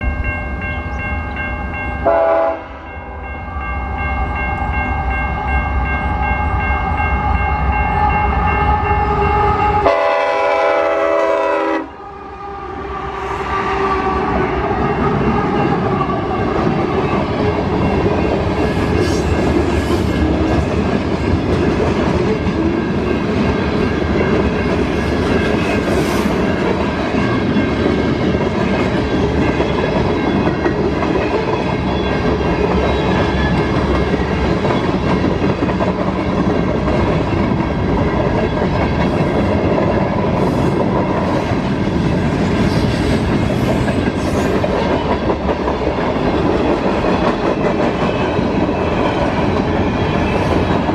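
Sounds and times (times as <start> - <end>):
train rumble: 0.0 - 50.9.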